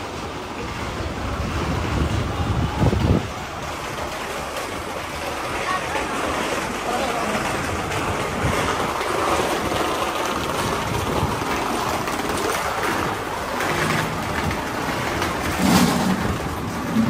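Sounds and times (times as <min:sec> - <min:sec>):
city traffic din: 0:00.0 - 0:17.0.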